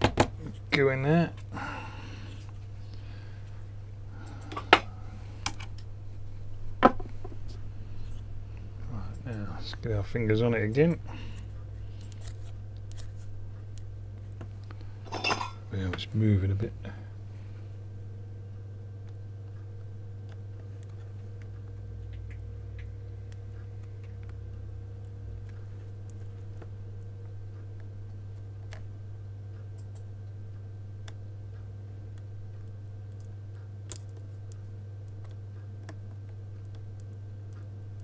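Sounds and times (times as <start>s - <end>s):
low hum: 0.3s - 38.0s.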